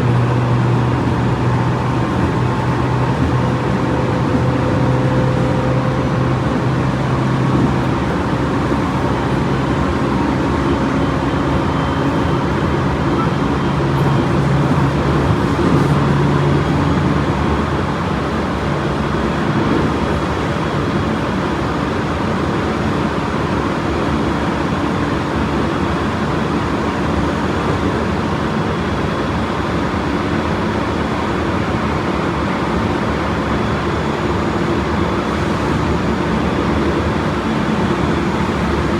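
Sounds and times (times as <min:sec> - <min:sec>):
wheel and rail rumble: 0:00.0 - 0:38.9.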